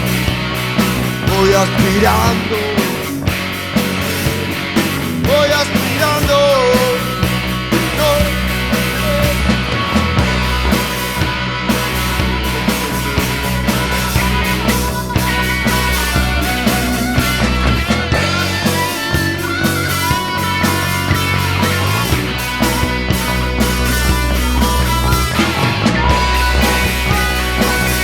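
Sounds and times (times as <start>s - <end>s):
rock band playing: 0.0s - 28.0s
wavering lead guitar line: 0.0s - 28.0s.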